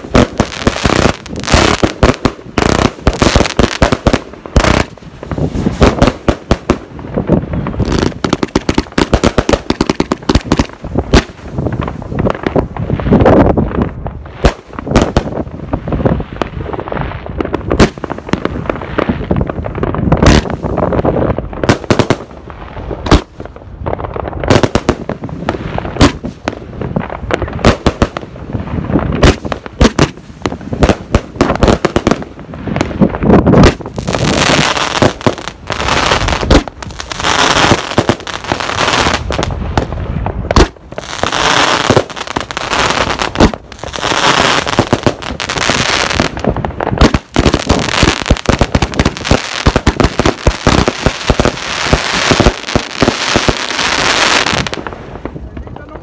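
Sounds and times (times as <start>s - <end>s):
fireworks crackle: 0.0s - 56.0s
fireworks shots and bangs: 0.0s - 56.0s.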